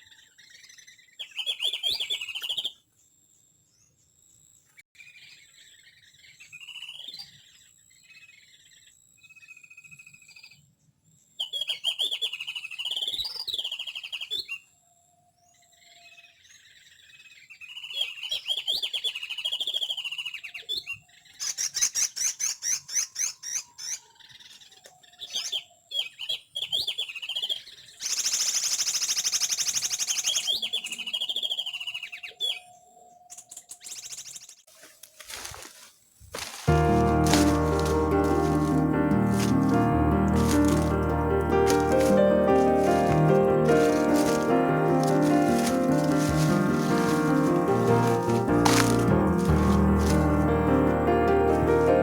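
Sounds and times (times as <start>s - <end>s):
songbirds chirping and twittering: 0.0s - 52.0s.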